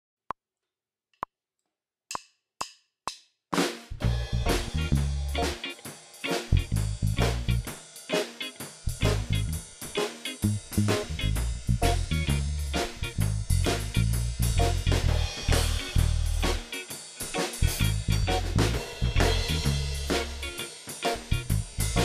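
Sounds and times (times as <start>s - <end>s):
drum kit groove: 3.1s - 22.0s
reggae backing track: 4.0s - 22.0s.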